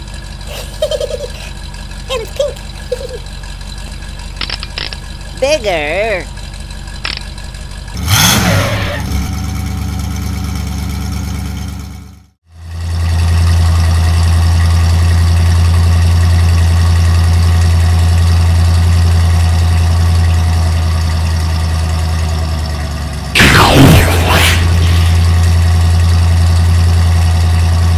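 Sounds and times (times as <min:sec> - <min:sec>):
deep engine running steadily: 0:00.0 - 0:27.9
truck engine idling and revving: 0:00.0 - 0:27.9.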